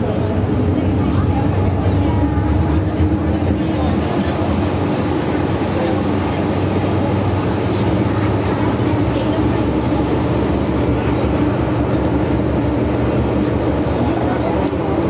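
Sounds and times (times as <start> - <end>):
train hum: 0.0 - 15.0
train wheels rumbling on rail: 0.0 - 15.0.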